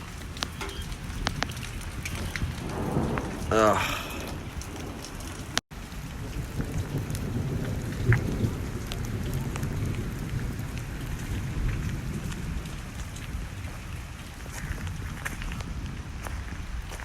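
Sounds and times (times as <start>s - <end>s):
heavy rain: 0.0s - 17.0s
strong wind: 0.0s - 17.0s.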